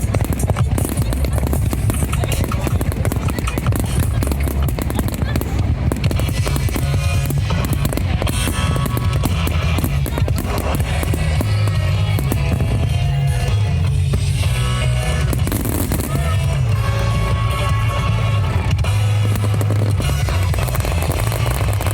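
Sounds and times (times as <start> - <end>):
fireworks bangs and crackles: 0.0 - 21.9
music playing: 0.0 - 21.9.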